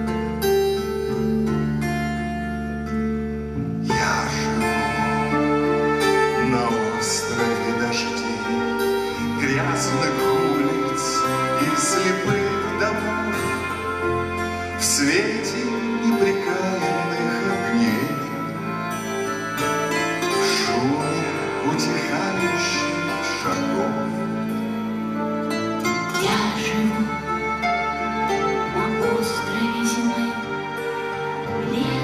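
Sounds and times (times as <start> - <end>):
slow instrumental ballad music: 0.0 - 32.0.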